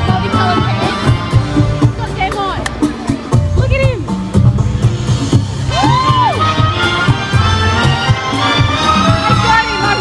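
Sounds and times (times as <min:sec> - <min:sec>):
loud music with heavy beat: 0:00.0 - 0:10.0.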